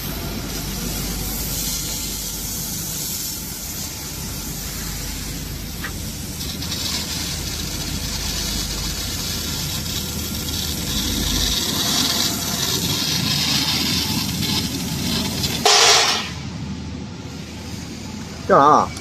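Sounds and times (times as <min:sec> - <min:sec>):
hiss of cutting gas: 0:00.0 - 0:16.4
machine hum: 0:00.0 - 0:19.0.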